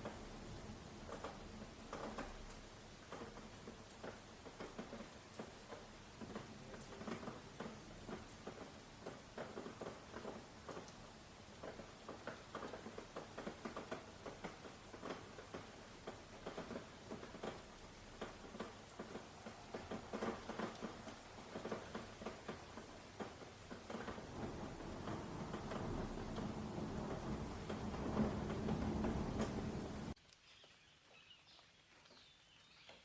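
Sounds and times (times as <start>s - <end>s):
faint steady hiss: 0.0s - 33.0s
raindrops tapping: 0.0s - 33.0s.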